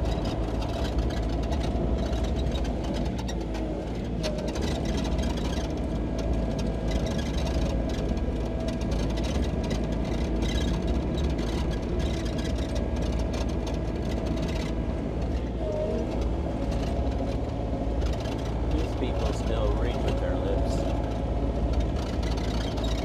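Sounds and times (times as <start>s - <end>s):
excavator diesel engine running: 0.0s - 23.0s
light clatter: 0.0s - 23.0s.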